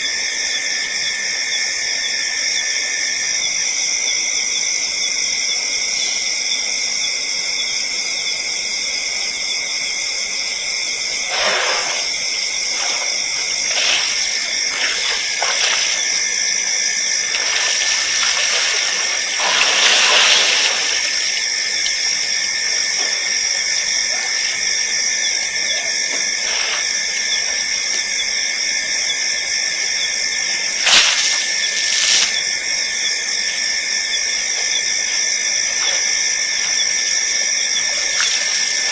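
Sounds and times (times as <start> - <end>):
high-pitched night ambience hiss: 0.0 - 38.9.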